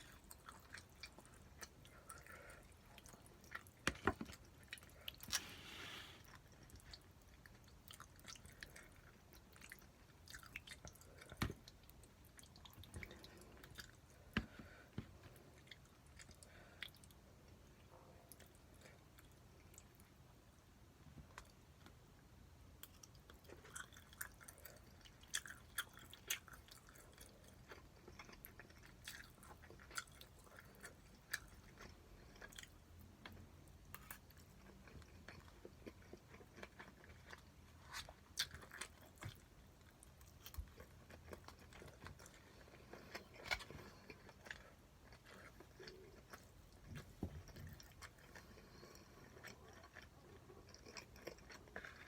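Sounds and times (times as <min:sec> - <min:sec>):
person chewing food: 0:00.0 - 0:52.0.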